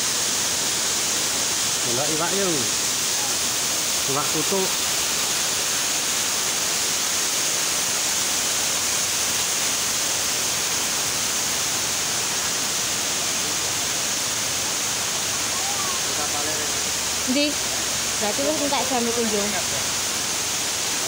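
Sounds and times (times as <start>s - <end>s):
waterfall and river rushing: 0.0s - 21.0s.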